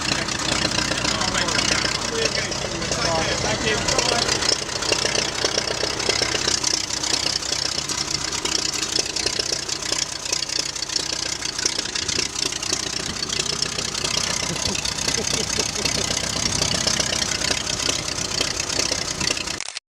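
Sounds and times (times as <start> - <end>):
tractor engine chugging: 0.0 - 19.6.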